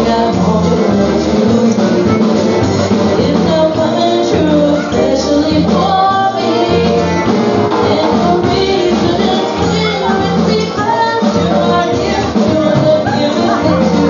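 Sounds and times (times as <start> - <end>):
polka band playing: 0.0 - 14.0.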